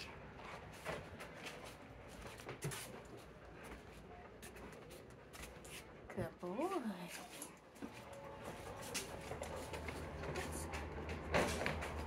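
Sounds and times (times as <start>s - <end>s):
faint footsteps: 0.4s - 12.0s.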